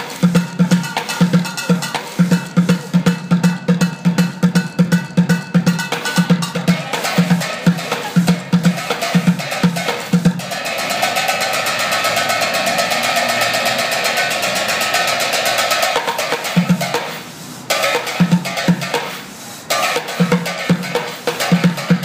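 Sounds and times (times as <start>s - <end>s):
fast drum roll on buckets: 0.0s - 22.0s.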